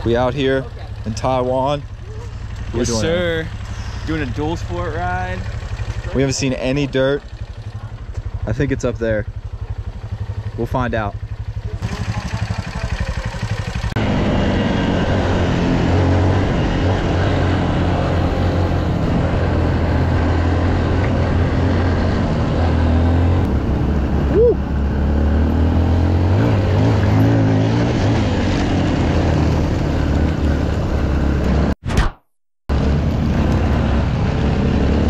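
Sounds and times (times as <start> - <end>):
dirt bike engines running: 0.0 - 31.7, 32.7 - 35.0.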